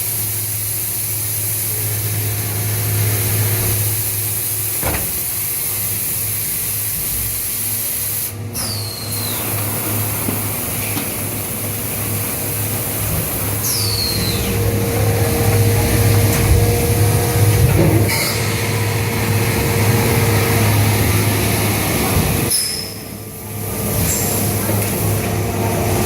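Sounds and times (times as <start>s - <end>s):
forming machine humming: 1.7s - 26.0s.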